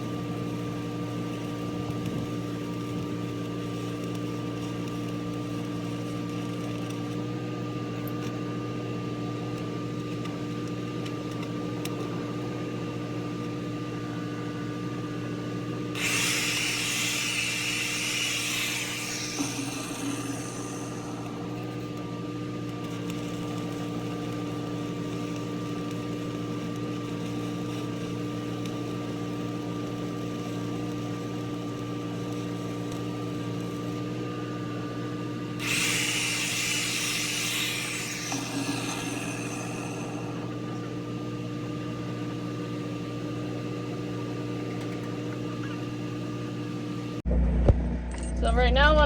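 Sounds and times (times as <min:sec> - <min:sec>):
welding arc hissing and crackling: 0:00.0 - 0:46.8
welder engine humming: 0:00.0 - 0:47.3.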